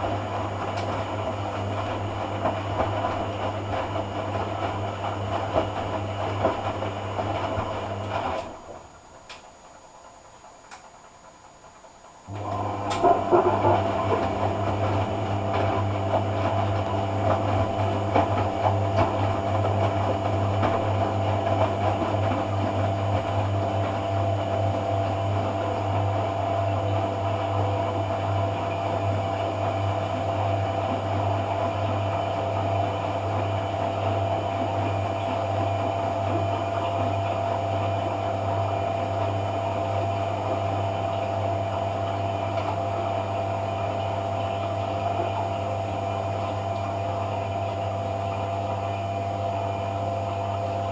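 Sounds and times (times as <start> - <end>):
water pumping and churning: 0.0 - 8.9, 12.6 - 25.9, 28.7 - 48.9
washing machine mains hum: 0.0 - 50.9.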